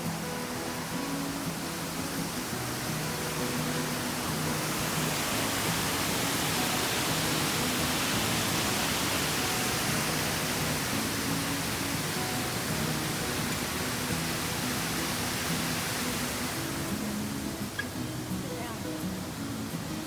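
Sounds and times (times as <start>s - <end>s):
rushing creek and waterfall: 0.0s - 20.0s.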